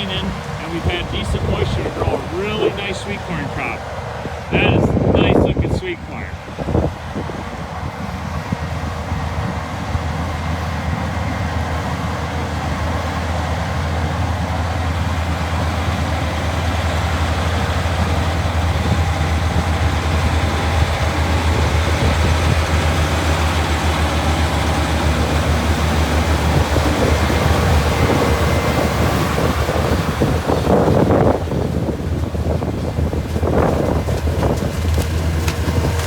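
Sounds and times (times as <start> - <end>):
harvester diesel engines running: 0.0 - 36.0.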